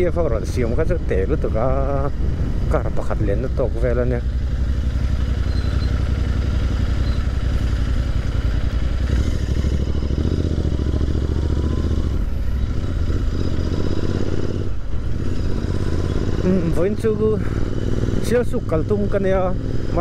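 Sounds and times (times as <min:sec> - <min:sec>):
motorcycle engine at low speed: 0:00.0 - 0:20.0.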